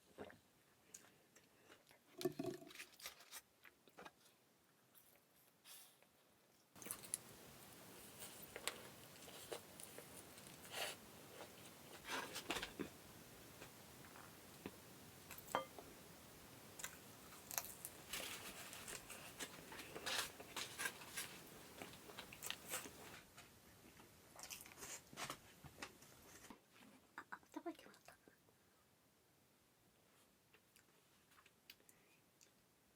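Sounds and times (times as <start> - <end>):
faint steady hiss: 0.0 - 32.9.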